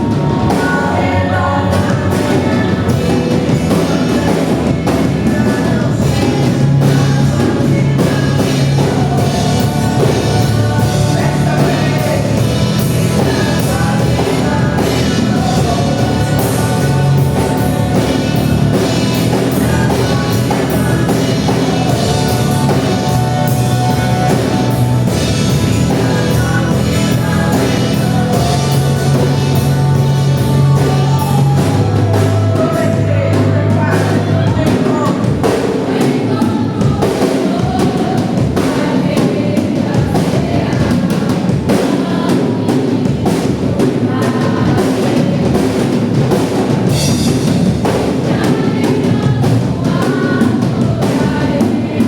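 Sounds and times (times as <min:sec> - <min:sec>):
band with drums and bass: 0:00.0 - 0:52.0
people singing: 0:00.0 - 0:52.0.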